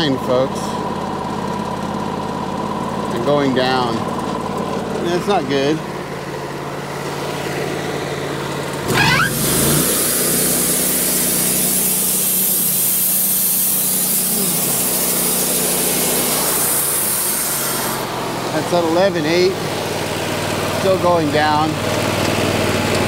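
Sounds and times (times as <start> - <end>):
sawmill engine revving: 0.0 - 23.0.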